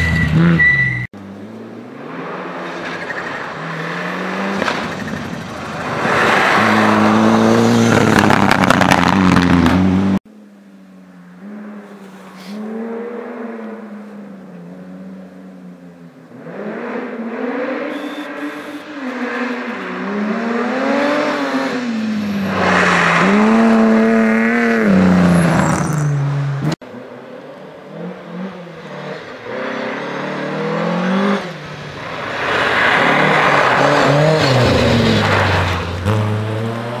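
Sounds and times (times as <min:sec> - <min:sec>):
rally car engines revving: 0:00.0 - 0:10.2, 0:11.4 - 0:37.0.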